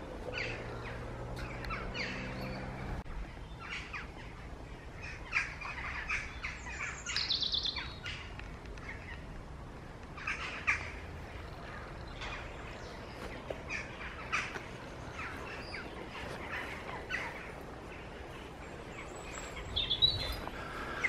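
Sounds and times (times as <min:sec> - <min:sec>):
birds calling and chirping: 0:00.0 - 0:21.0
faint outdoor background: 0:00.0 - 0:21.0.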